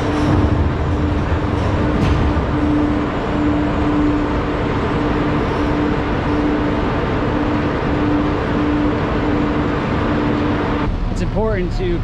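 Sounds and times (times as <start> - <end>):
crane mechanical rush: 0.0 - 12.0
repeating low tone: 0.0 - 12.0.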